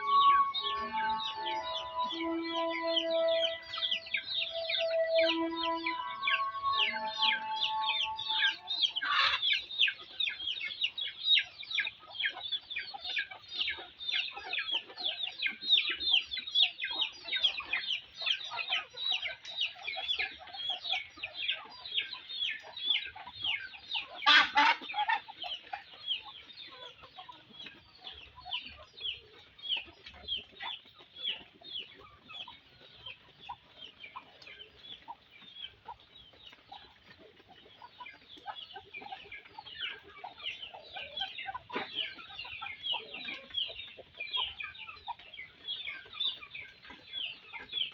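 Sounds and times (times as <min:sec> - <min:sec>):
chickens calling: 0:00.0 - 0:47.9.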